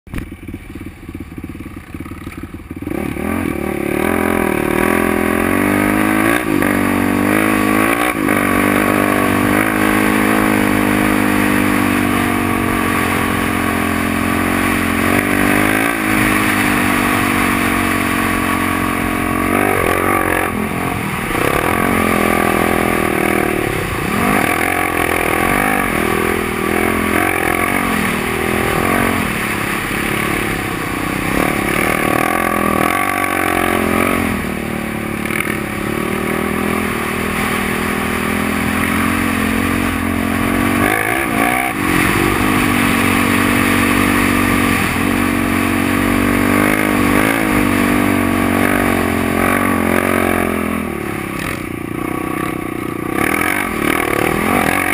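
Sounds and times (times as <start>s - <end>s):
vehicle engine revving: 0.1s - 54.9s.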